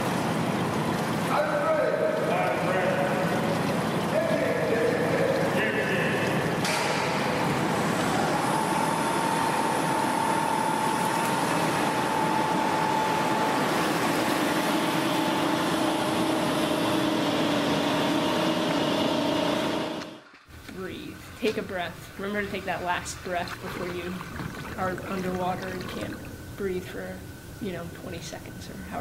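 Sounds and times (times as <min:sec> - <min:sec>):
rushing machinery and water: 0:00.0 - 0:20.2, 0:20.9 - 0:29.0
faint machine whine: 0:00.0 - 0:29.0.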